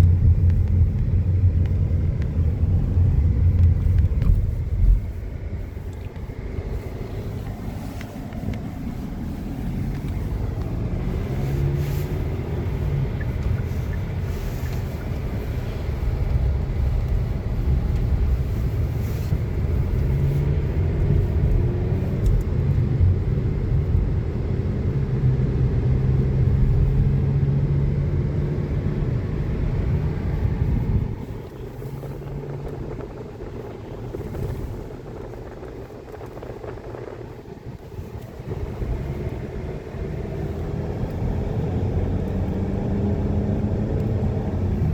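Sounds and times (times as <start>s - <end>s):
gusty wind buffeting microphone: 0.0s - 44.9s.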